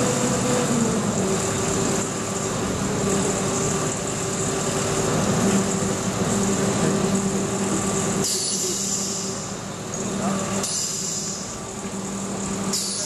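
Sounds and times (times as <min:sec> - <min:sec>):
engine hum with high whine: 0:00.0 - 0:13.0.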